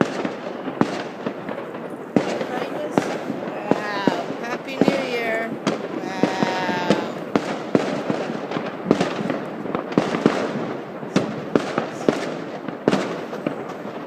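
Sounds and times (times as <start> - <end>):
firework bangs: 0.0 - 14.0
fireworks crackling: 0.0 - 14.0.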